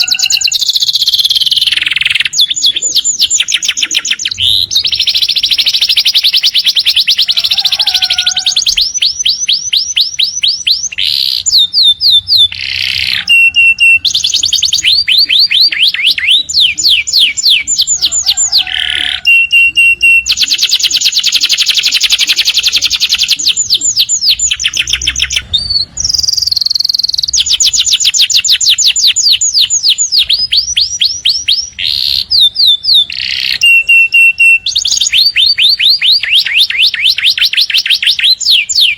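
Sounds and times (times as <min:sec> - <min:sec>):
canary trilling: 0:00.0 - 0:38.9
canary whistles: 0:00.0 - 0:38.9.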